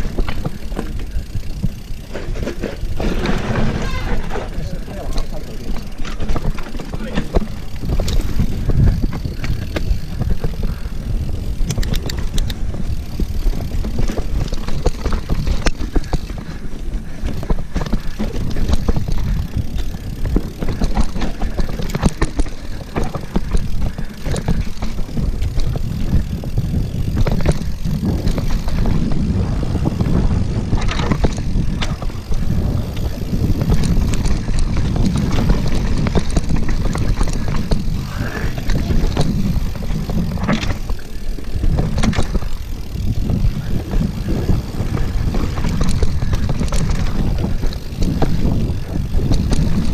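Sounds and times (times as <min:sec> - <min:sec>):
bike rattling and knocking: 0:00.0 - 0:49.9
tyre noise on dirt: 0:00.0 - 0:49.9
wind rumble on microphone: 0:00.0 - 0:49.9.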